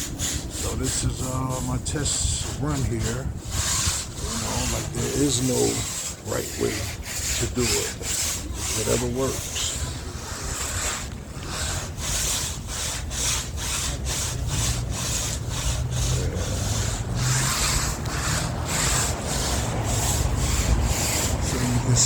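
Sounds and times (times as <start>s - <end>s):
brush scrubbing wet fabric: 0.0s - 22.0s.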